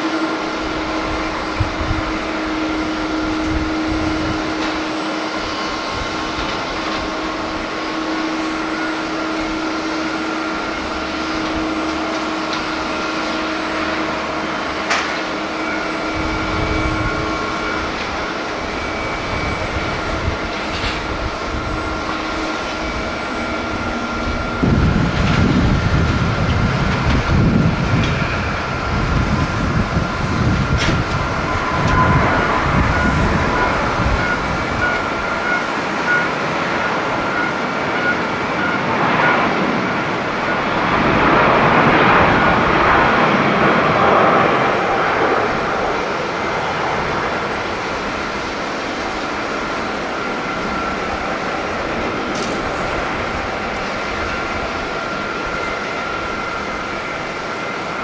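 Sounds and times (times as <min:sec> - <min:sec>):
jet airliner engines at takeoff: 0:00.0 - 0:58.0.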